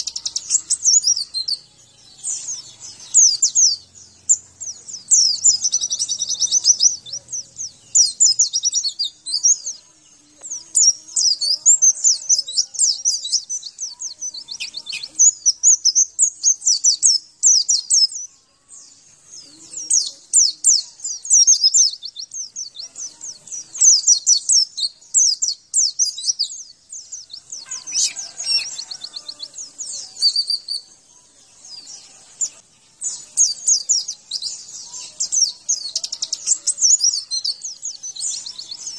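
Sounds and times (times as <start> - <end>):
bird twittering chirps: 0.0 - 9.9, 10.6 - 18.3, 19.5 - 38.9.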